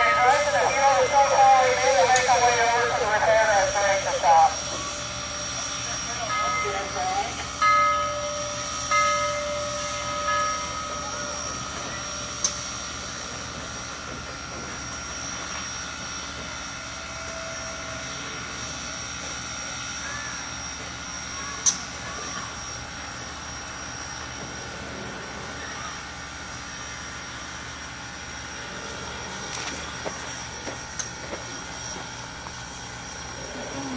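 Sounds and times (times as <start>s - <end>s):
high constant whine: 0.0s - 33.9s
steam locomotive hissing and humming: 0.0s - 33.9s.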